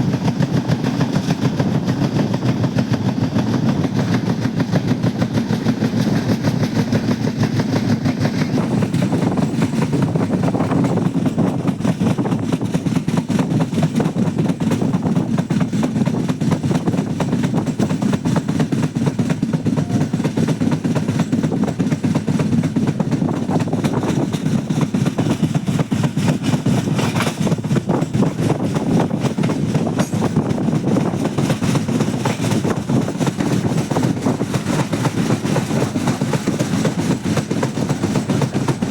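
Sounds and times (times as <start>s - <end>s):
passenger train rumbling and rattling: 0.0s - 38.9s.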